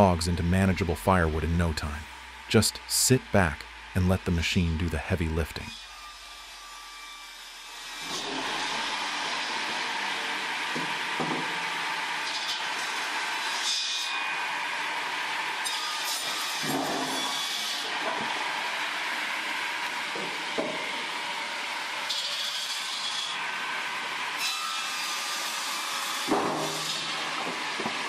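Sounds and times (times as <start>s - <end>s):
machine sawing wood: 0.0s - 28.0s.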